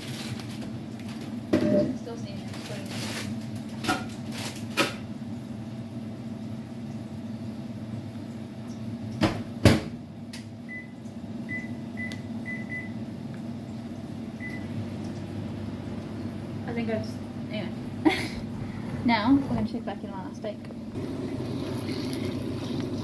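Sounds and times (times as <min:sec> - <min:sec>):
microwave oven humming: 0:00.0 - 0:23.0.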